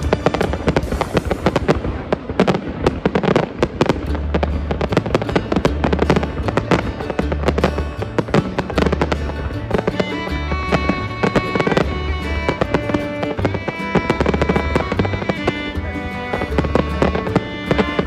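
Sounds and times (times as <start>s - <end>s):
fireworks bangs and crackles: 0.0s - 10.1s, 10.7s - 18.0s
music playing: 0.0s - 18.0s.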